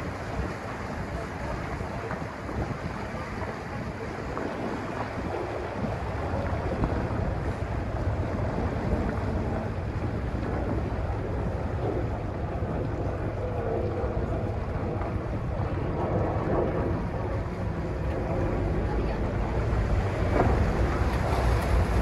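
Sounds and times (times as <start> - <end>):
boat engine low rumble: 0.0 - 22.0
water rushing past hull: 0.0 - 22.0
wind buffeting microphone: 0.0 - 22.0.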